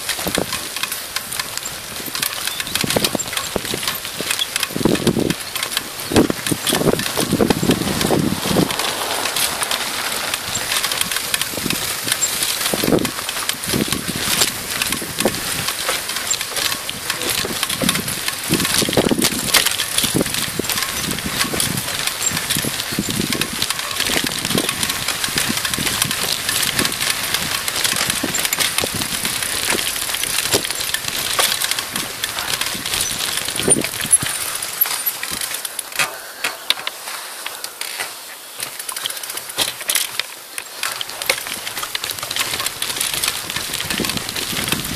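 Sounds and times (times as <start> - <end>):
bike rattling and clicking: 0.0 - 44.9
tyre noise on dirt: 0.0 - 44.9.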